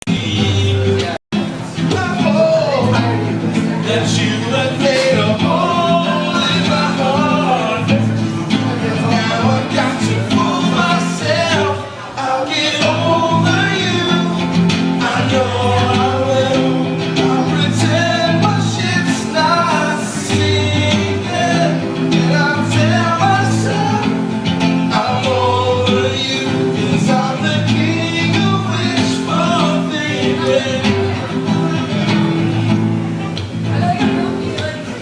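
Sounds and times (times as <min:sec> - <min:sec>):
person singing: 0:00.0 - 0:32.6
guitar: 0:00.0 - 0:35.0.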